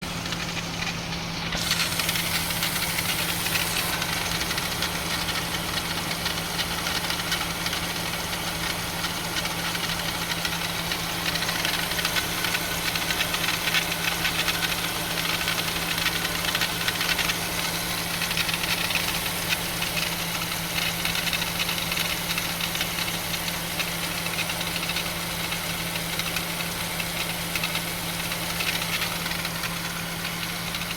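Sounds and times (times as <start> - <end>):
engine idling hum: 0.0 - 30.9.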